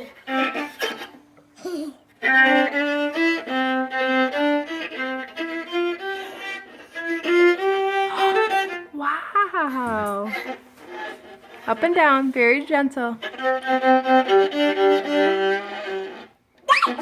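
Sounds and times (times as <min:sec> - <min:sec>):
viola bowed tune: 0:00.0 - 0:01.4, 0:02.2 - 0:17.0.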